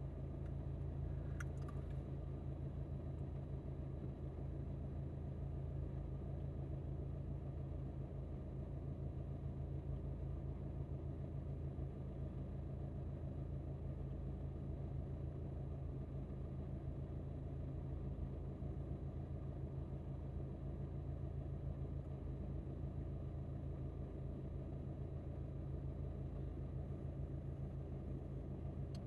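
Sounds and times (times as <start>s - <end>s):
car engine hum: 0.0s - 29.0s.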